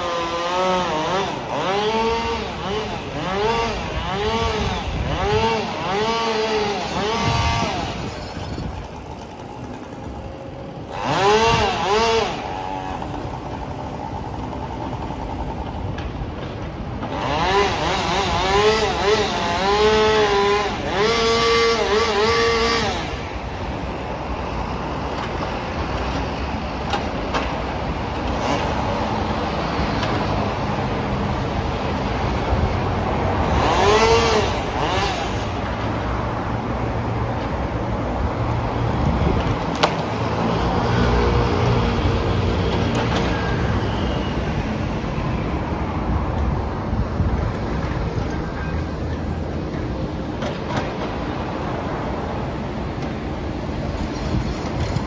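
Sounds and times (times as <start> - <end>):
engine running and revving: 0.0 - 55.0.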